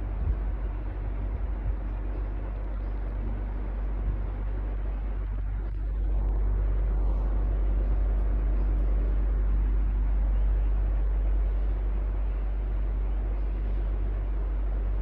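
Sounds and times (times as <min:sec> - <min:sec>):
electric fan humming and whooshing: 0:00.0 - 0:15.0.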